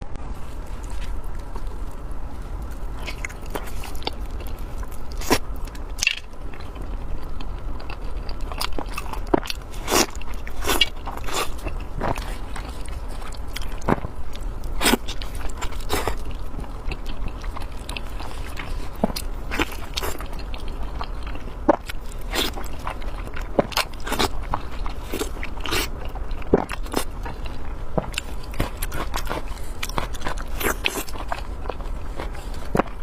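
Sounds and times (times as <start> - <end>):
steady low hum: 0.0 - 33.0
close biting and chewing: 0.4 - 33.0.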